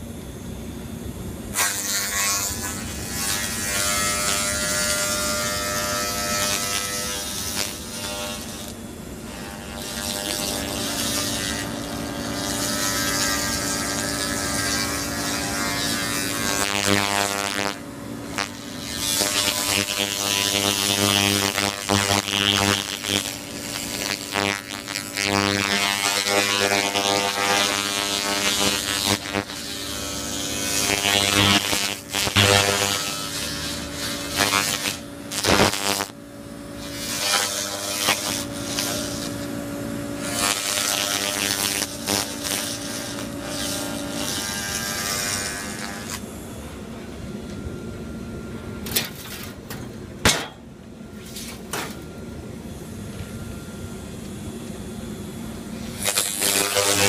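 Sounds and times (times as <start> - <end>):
laser gun buzzing hum: 1.5 - 46.5, 55.0 - 57.0.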